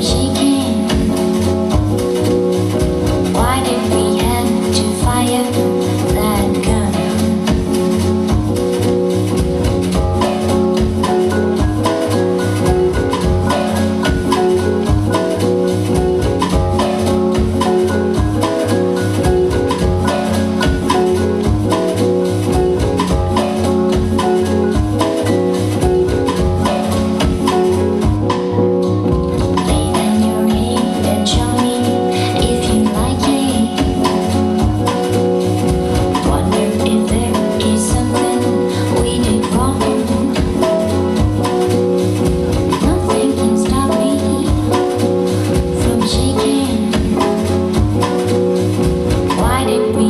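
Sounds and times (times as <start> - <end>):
dance music with drum beat: 0.0 - 50.0.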